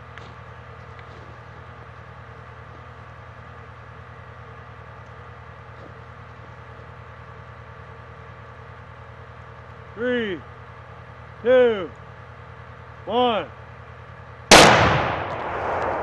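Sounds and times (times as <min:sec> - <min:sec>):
engine idling: 0:00.0 - 0:15.6.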